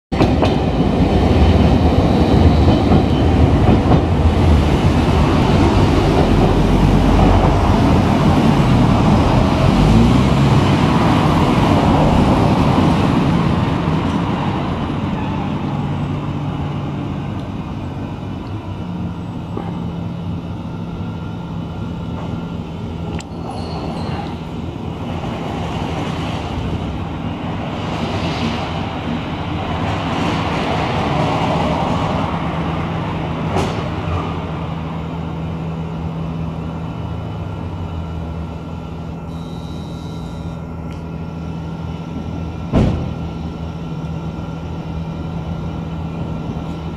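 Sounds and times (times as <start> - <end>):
street traffic: 0.1 - 46.9
streetcar running on track: 0.1 - 46.9.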